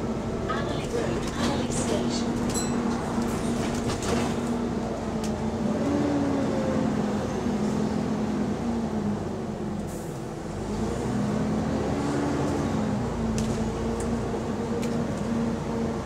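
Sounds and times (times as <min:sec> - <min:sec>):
bus engine drone: 0:00.0 - 0:16.0.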